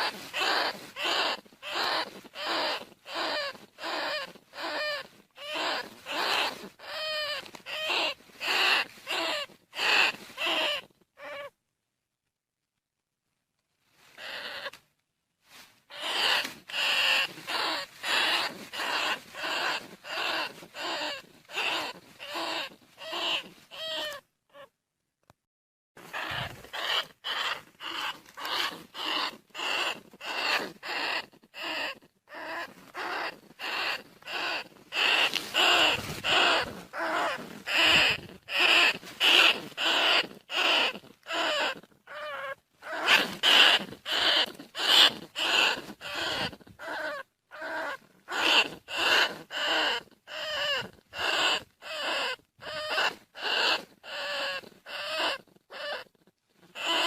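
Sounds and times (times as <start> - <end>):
rat squealing: 0.0 - 11.5, 14.2 - 14.8, 15.9 - 24.7, 26.0 - 57.0.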